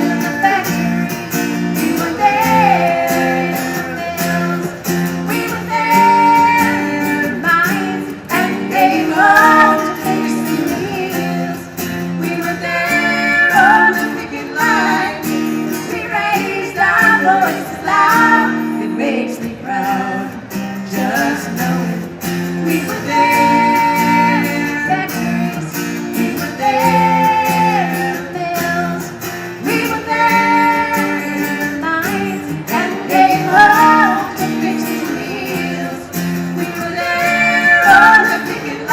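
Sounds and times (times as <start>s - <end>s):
guitar accompaniment: 0.0s - 38.9s
woman singing: 0.0s - 38.9s.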